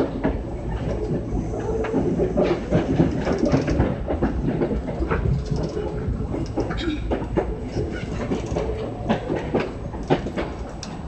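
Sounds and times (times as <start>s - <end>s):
train rolling rumble: 0.0s - 11.0s
wheels clattering on track: 0.0s - 11.0s.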